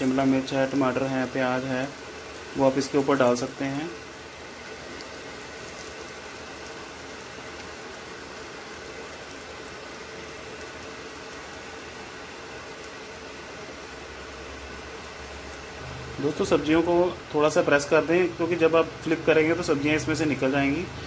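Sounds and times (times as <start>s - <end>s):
batter sizzling in oil: 0.0s - 21.0s
faint steady hum: 0.0s - 21.0s.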